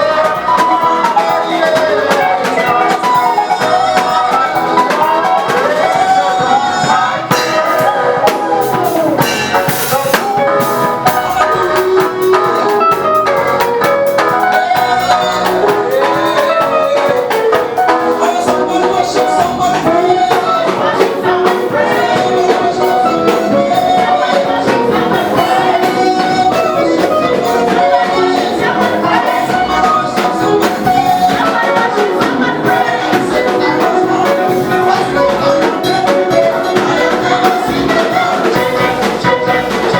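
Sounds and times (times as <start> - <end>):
band playing upbeat groove: 0.0 - 39.9
person singing: 0.0 - 39.9.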